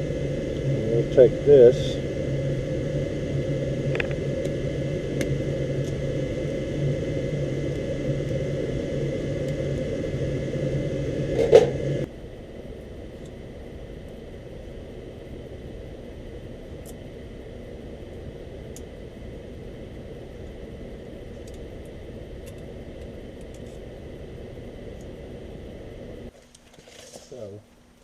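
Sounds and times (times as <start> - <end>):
faint steady rush: 0.0 - 26.3
furnace humming and whirring: 0.0 - 28.0.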